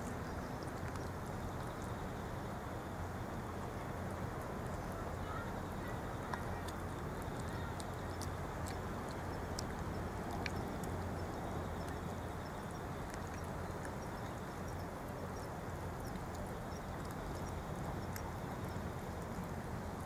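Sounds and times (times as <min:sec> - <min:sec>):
cats chewing and lapping: 0:00.0 - 0:20.0.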